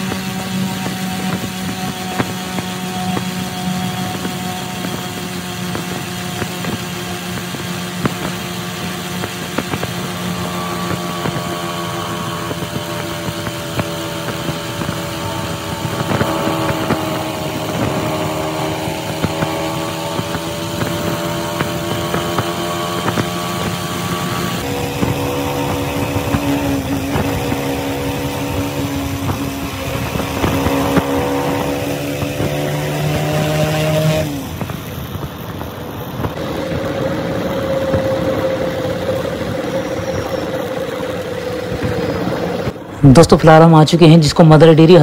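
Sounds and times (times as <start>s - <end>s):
motorcycle engine running: 0.0s - 43.5s
road noise rush: 0.0s - 45.0s.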